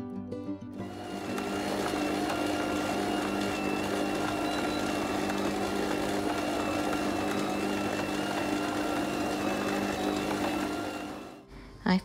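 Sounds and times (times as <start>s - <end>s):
stand mixer motor humming: 0.8s - 11.4s.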